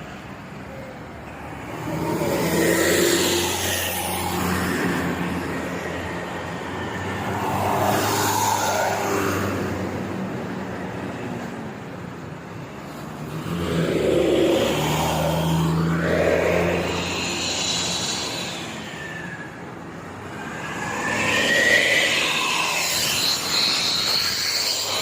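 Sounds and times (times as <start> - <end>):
vehicles passing on road: 0.0 - 25.0.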